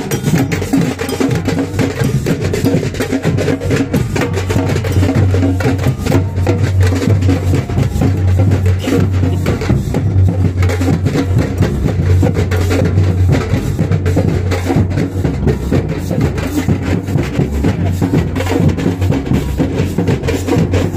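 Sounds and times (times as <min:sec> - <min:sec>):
deep sustained low drum tone: 0:00.0 - 0:20.9
samba band drumming: 0:00.0 - 0:20.9.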